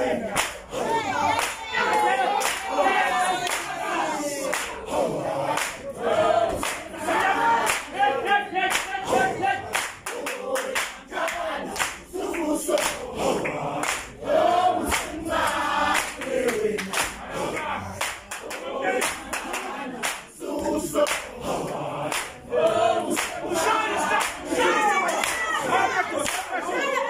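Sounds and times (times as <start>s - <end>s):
group singing in chorus: 0.0s - 27.0s
sharp rhythmic beats: 0.0s - 27.0s.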